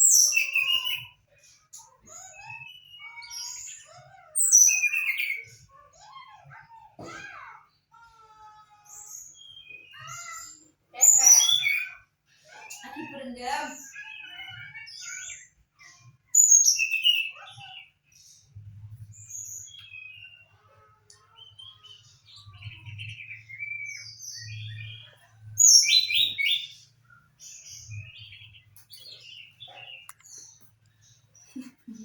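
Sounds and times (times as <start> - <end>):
bird singing high chirps: 0.0 - 5.7, 8.9 - 17.9, 18.5 - 31.6.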